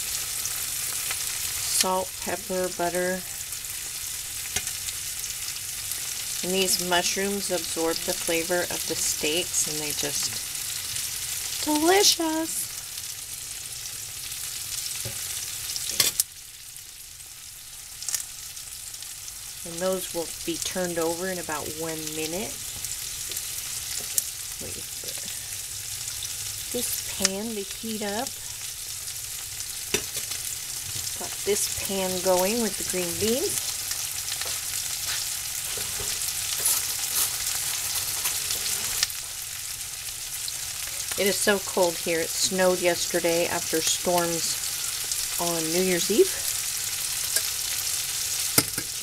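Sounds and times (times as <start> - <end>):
steaks sizzling in a skillet: 0.0 - 49.0.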